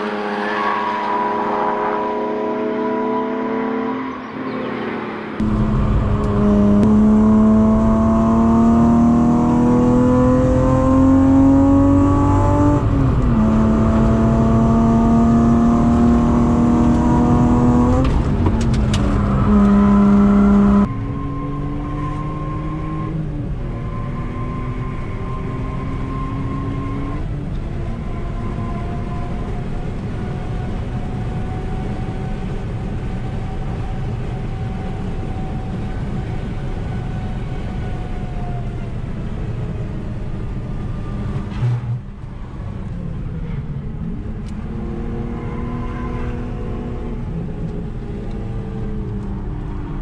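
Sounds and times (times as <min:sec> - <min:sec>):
car engine revving: 0:00.0 - 0:37.0, 0:38.9 - 0:50.0
road and wind noise: 0:00.0 - 0:50.0.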